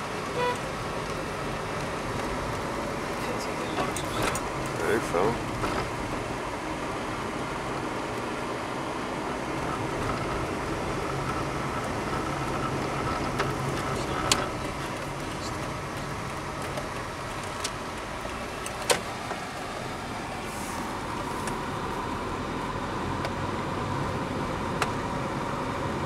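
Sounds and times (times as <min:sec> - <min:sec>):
car engine and road drone: 0:00.0 - 0:26.0.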